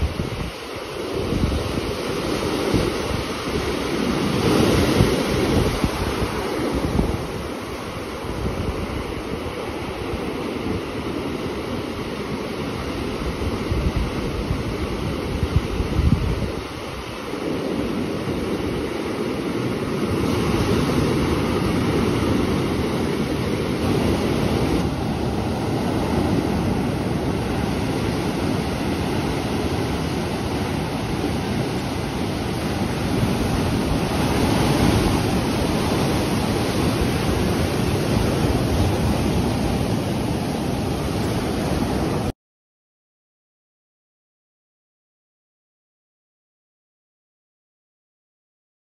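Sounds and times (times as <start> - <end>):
waves washing up a beach: 0.0 - 42.3.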